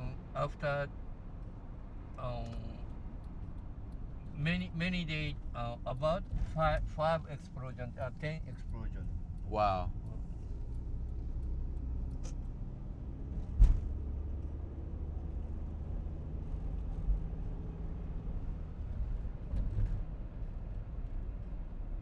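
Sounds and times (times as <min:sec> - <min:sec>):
car rumbling in motion: 0:00.0 - 0:22.0.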